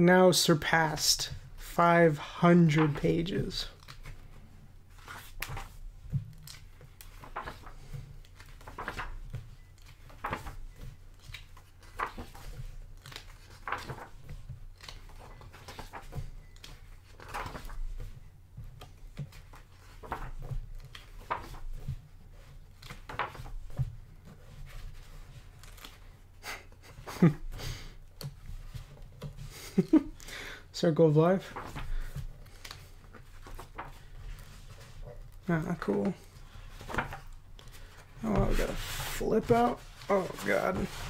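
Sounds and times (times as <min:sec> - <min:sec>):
book pages turning: 0:02.7 - 0:30.3, 0:31.3 - 0:41.0.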